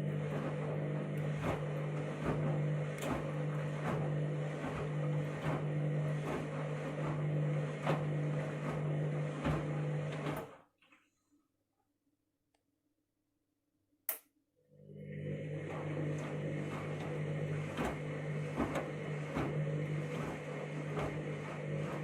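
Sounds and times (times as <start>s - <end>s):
washing machine motor humming: 0.0s - 10.6s, 14.7s - 22.0s.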